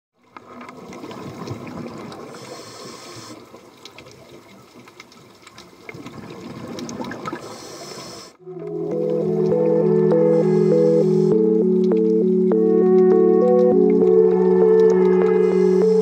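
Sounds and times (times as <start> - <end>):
small underwater clicks: 0.2 - 9.8, 11.5 - 16.0.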